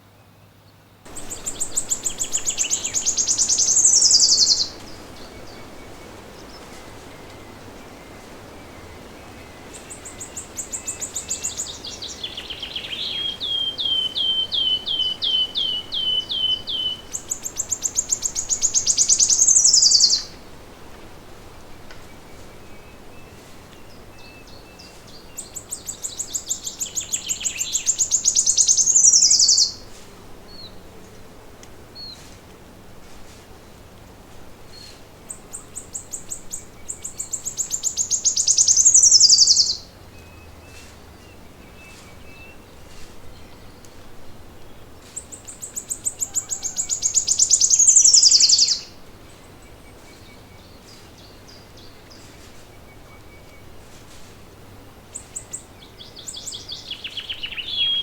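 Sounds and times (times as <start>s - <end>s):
songbird trilling song: 0.2s - 20.5s, 21.7s - 30.8s, 34.7s - 54.2s, 55.0s - 58.0s.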